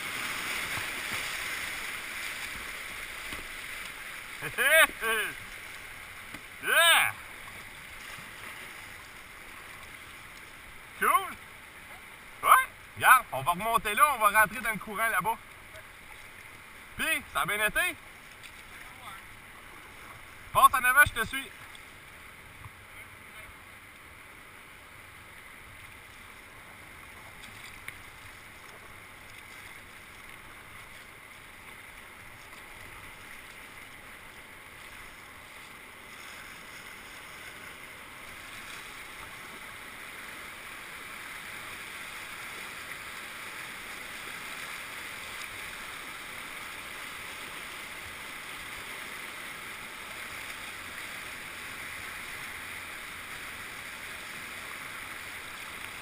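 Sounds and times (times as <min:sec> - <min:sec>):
rushing whitewater: 0:00.0 - 0:56.0.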